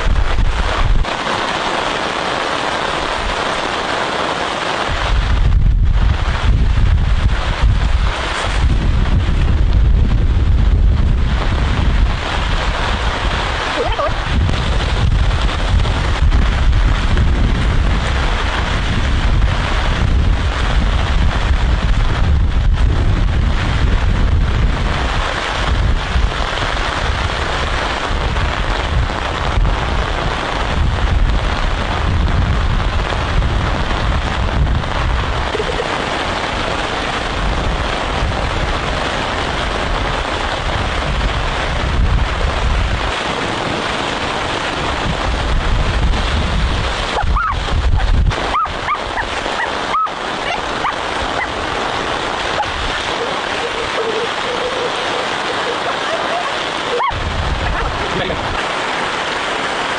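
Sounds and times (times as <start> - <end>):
low rumbling wind buffeting: 0.0 - 2.2, 4.8 - 59.9
gusting wind: 0.0 - 59.9
heavy rain: 0.0 - 59.9.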